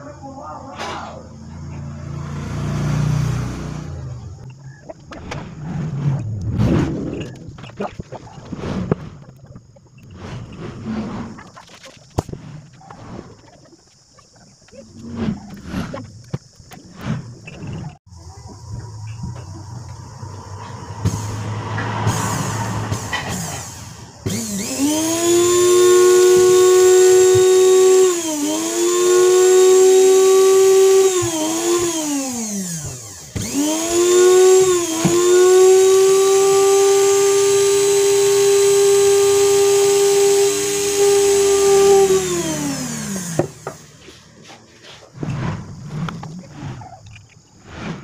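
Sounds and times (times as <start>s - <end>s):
electric motor whining: 1.6s - 13.4s, 14.6s - 44.2s.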